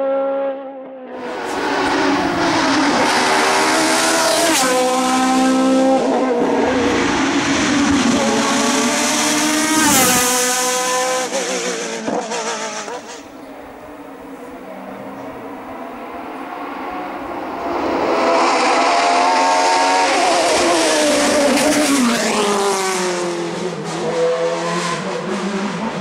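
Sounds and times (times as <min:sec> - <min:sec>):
race car engine revving: 0:01.2 - 0:26.0.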